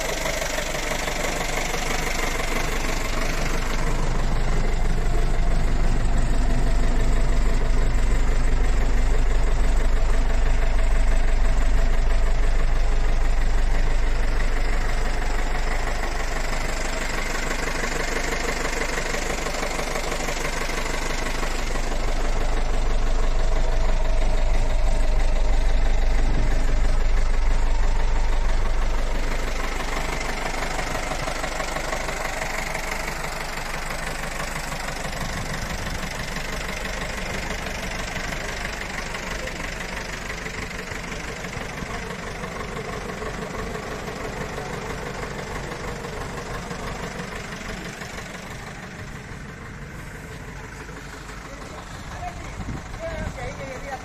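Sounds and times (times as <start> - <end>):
truck engine idling: 0.0 - 54.0.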